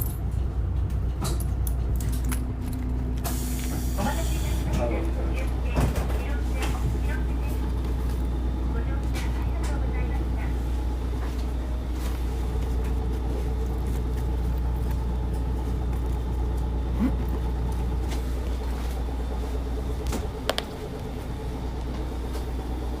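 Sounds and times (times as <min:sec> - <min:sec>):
bus engine low rumble: 0:00.0 - 0:23.0.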